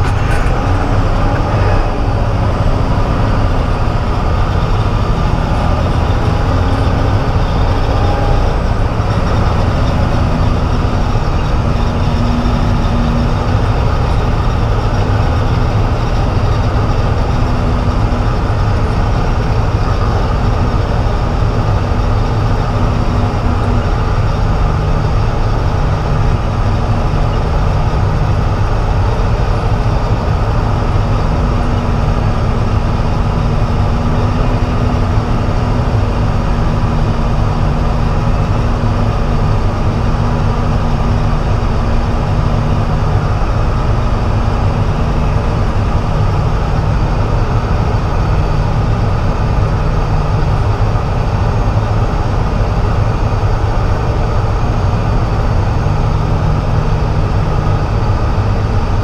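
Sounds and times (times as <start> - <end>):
diesel truck engine drone: 0.0 - 59.0.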